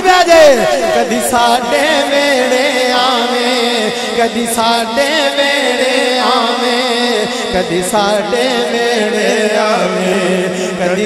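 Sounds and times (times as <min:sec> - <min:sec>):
man singing through sound system: 0:00.0 - 0:11.0.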